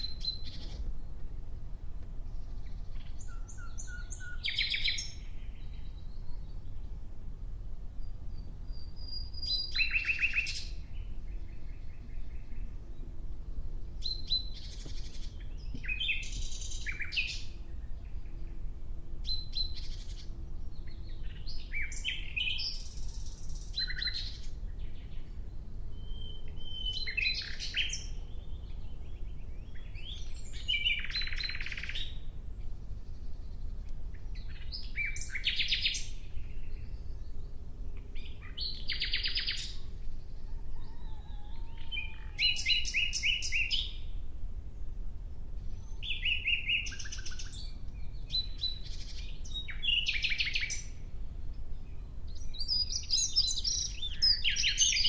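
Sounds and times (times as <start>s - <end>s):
nightingale singing: 0.0s - 1.1s, 2.2s - 7.0s, 8.0s - 13.2s, 13.9s - 44.2s, 45.6s - 55.0s.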